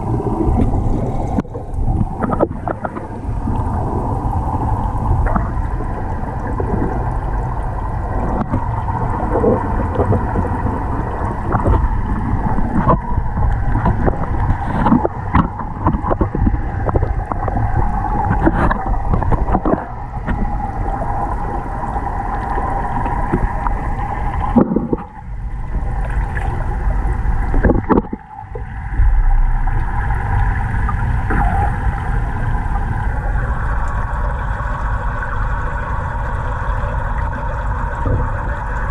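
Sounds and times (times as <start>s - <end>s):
faint hum: 0.0s - 38.9s
underwater rumble of moving water: 0.0s - 38.9s.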